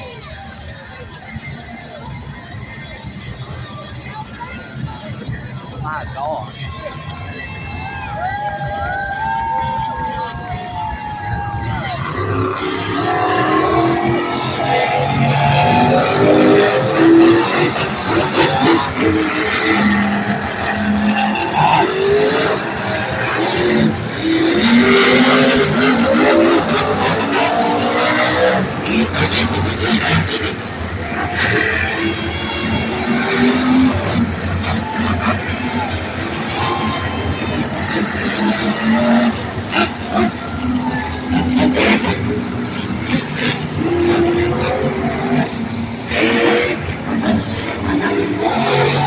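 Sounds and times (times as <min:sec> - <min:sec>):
monster truck engines revving: 0:00.0 - 0:49.0.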